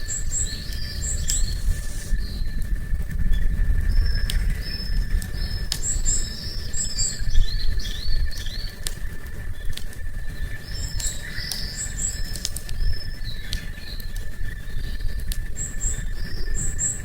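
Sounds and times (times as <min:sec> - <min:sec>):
campfire crackling: 0:00.0 - 0:17.0
low rumble: 0:00.0 - 0:17.0
songbird singing: 0:00.0 - 0:17.0.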